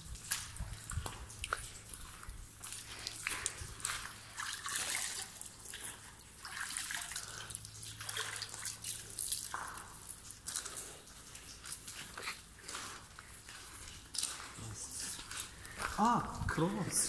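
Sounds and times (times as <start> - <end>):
hands splashing water in basin: 0.0 - 14.6
water dripping: 0.0 - 17.0.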